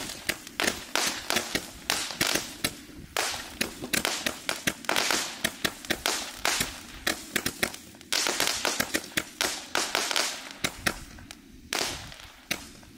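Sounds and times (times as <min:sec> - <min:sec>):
firework hissing: 0:00.0 - 0:12.9
firework sharp bangs: 0:00.0 - 0:12.9.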